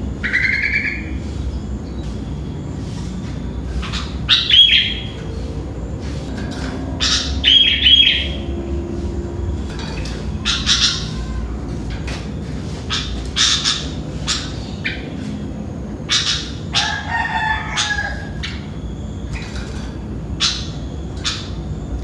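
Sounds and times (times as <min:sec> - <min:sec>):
low background rumble: 0:00.0 - 0:22.0
bird calling sliding notes: 0:02.2 - 0:22.0.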